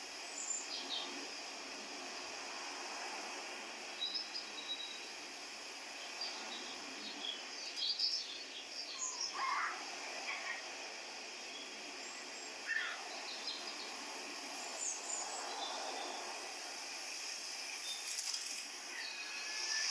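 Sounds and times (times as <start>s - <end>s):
background hiss: 0.0s - 19.9s
small birds chirping: 0.1s - 2.5s, 3.7s - 19.9s.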